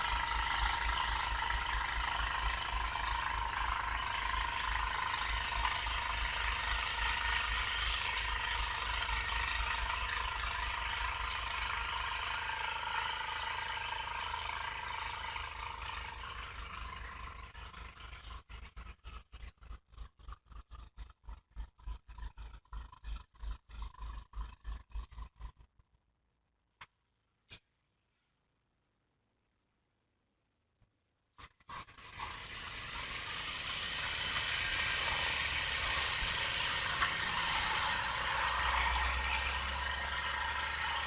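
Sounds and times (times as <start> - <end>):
snowblower engine rattling: 0.0 - 25.7, 31.4 - 41.0.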